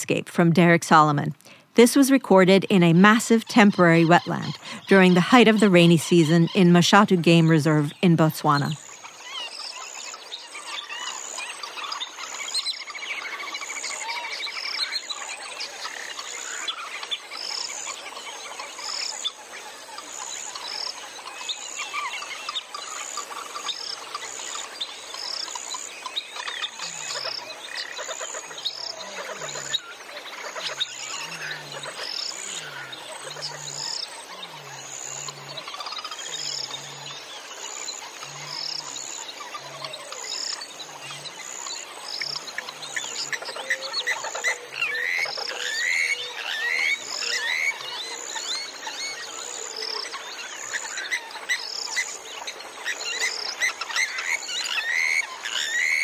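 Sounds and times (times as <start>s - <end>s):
frogs and insects calling: 0.0s - 56.0s
low frog croak: 7.9s - 56.0s.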